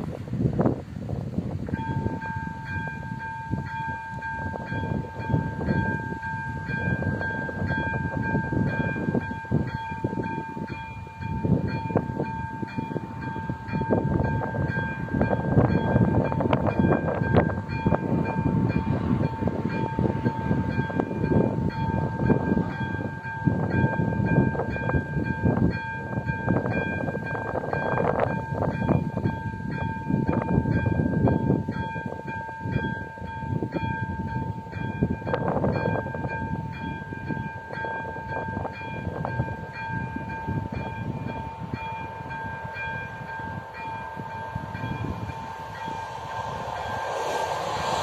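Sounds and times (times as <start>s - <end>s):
wind rumbling on microphone: 0.0s - 48.0s
two-tone crossing bell: 1.7s - 47.1s.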